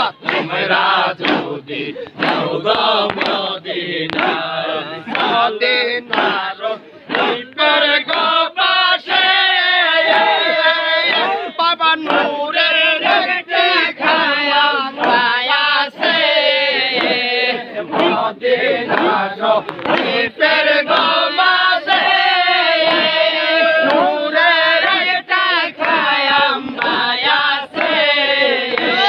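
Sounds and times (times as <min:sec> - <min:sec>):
crowd of men chanting: 0:00.0 - 0:29.0.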